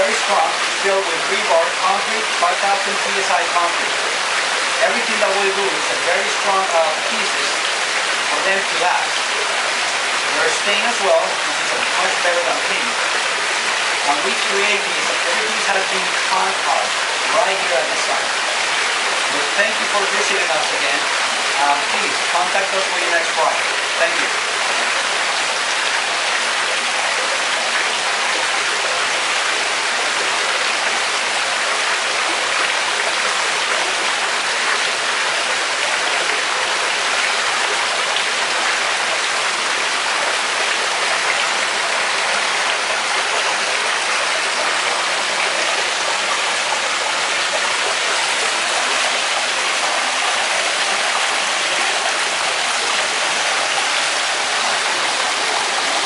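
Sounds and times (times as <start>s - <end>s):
waterfall into pool: 0.0s - 56.0s.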